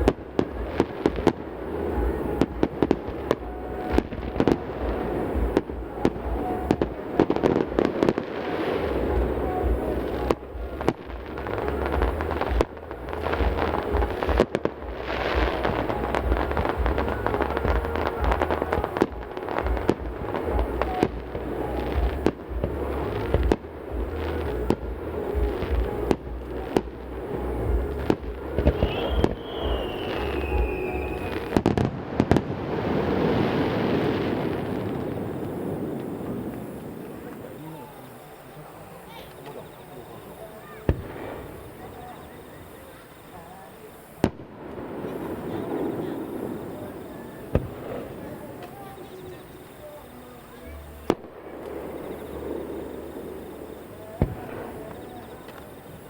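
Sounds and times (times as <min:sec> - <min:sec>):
firework falling whistle: 0:00.0 - 0:56.0
fireworks bursting and crackling: 0:00.0 - 0:56.0.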